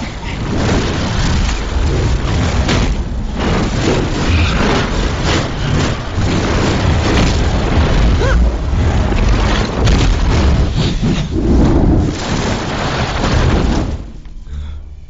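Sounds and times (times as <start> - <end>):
booms and impacts: 0.0 - 14.2
heavy low rumble: 0.0 - 15.0.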